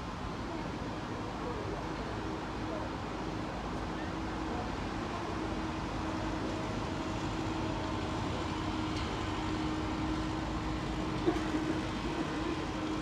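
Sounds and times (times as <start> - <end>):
miniature train rumbling: 0.0 - 13.0.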